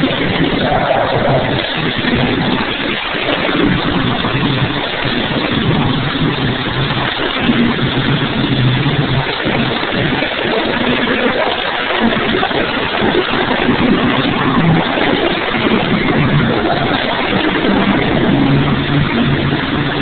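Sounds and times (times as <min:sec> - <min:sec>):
monster truck engine running: 0:00.0 - 0:20.0.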